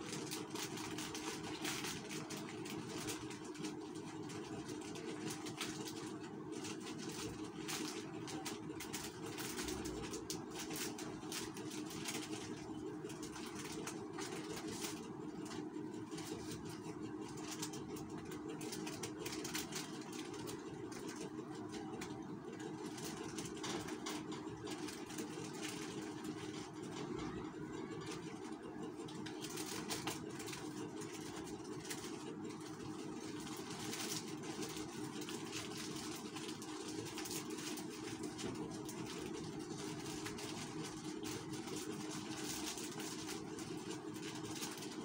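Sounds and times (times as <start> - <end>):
plastic sachets crinkling: 0.0 - 27.1, 27.8 - 45.0.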